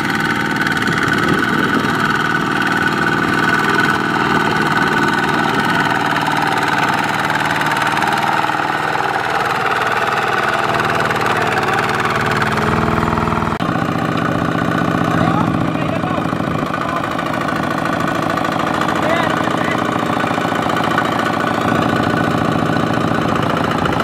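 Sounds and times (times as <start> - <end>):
single-cylinder diesel engine running: 0.0 - 24.0.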